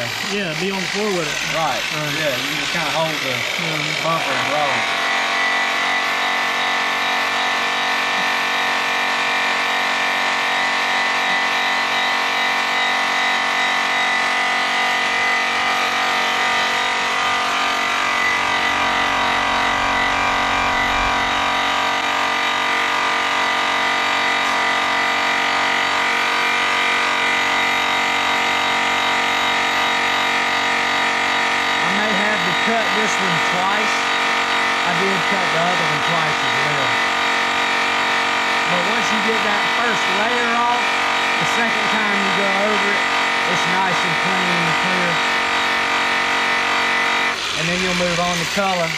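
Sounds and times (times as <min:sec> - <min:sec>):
polisher motor whine: 0:00.0 - 0:48.9.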